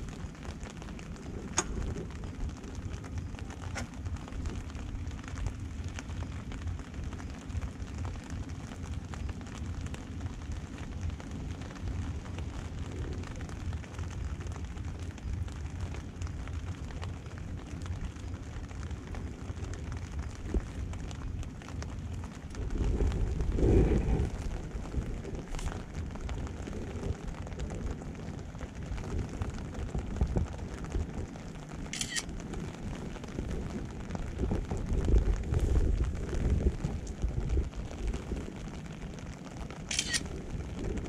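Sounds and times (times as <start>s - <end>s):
faint crackling: 0.0s - 41.0s
low outdoor rumble: 0.0s - 41.0s.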